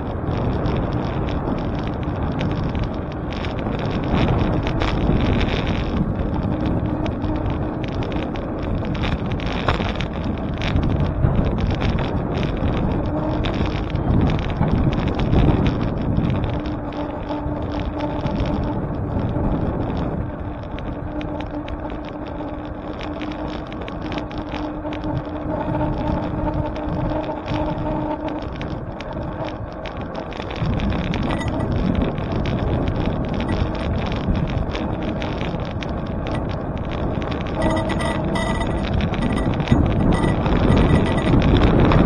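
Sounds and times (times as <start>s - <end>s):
bicycle tyre and road noise: 0.0s - 42.0s
wind buffeting microphone: 0.0s - 42.0s.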